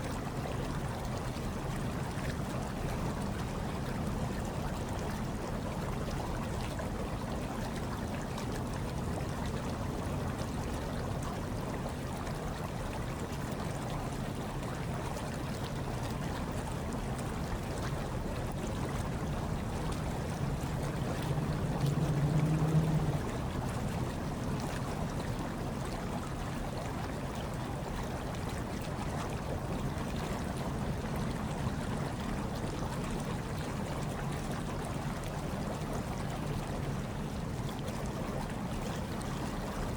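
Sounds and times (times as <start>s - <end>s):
hot tub water rushing: 0.0s - 39.9s.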